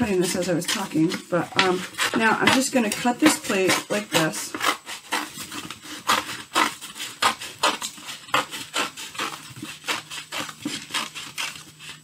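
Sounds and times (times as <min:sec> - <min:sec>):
scissors snipping paper plate: 0:00.0 - 0:12.0.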